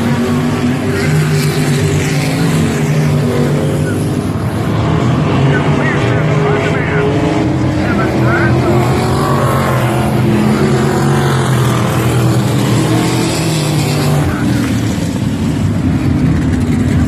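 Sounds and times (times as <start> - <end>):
cars passing by: 0.0 - 17.0
race car engines roaring: 0.0 - 17.0.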